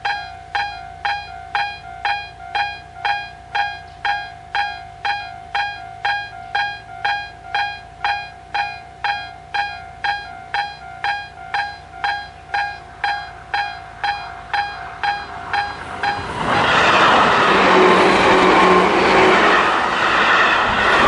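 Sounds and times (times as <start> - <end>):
level crossing alarm ringing: 0.0 - 19.4.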